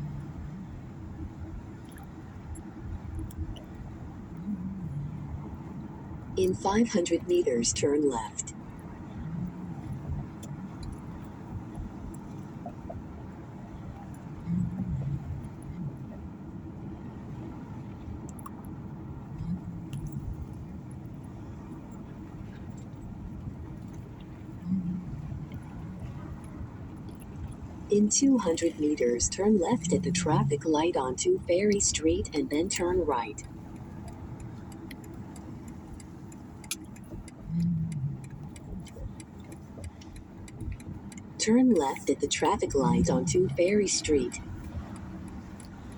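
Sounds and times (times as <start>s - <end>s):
car cabin road rumble: 0.0s - 45.9s
turn signal clicking: 0.0s - 45.9s.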